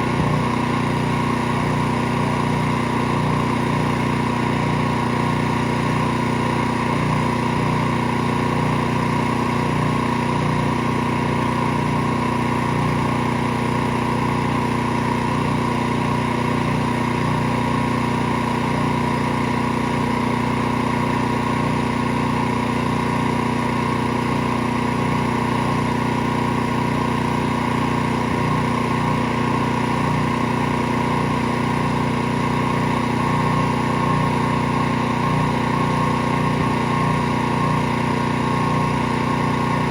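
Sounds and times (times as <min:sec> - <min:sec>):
pressure washer motor running: 0:00.0 - 0:39.9.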